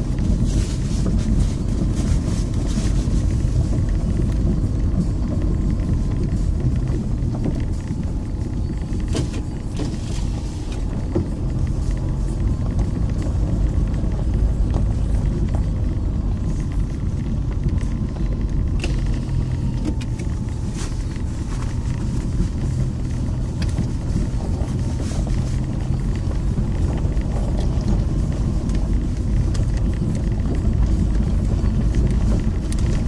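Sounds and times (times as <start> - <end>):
tyres and engine rumbling on gravel: 0.0 - 33.0.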